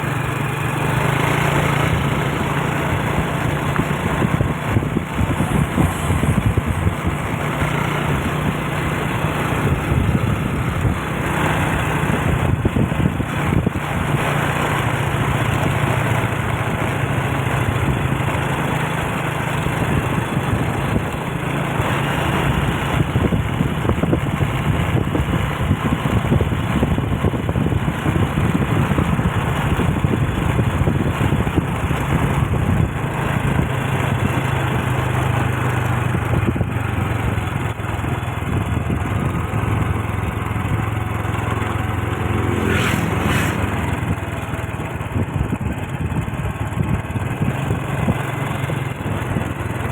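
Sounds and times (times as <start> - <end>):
road and wind noise: 0.0 - 49.9
vehicle engine humming: 0.0 - 49.9.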